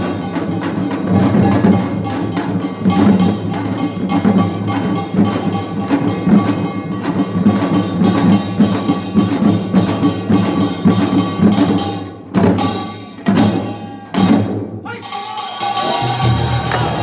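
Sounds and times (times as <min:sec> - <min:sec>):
heavy drum strokes: 0:00.0 - 0:17.0
percussion band playing fast rhythm: 0:00.0 - 0:17.0.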